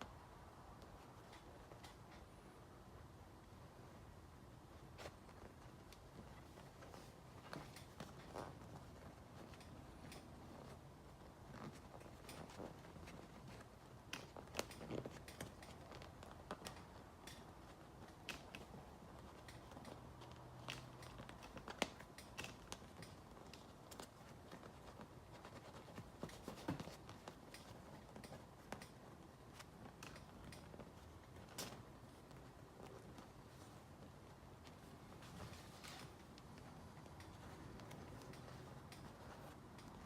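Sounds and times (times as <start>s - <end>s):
hands rustling vinyl seat: 0.0s - 40.0s
low room hum: 0.0s - 40.0s.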